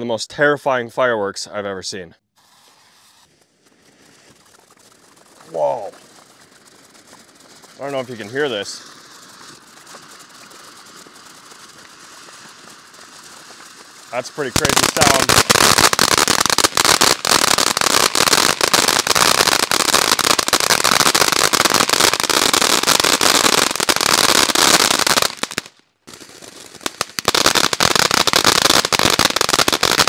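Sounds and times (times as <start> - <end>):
firework fountain crackling: 2.4 - 30.0.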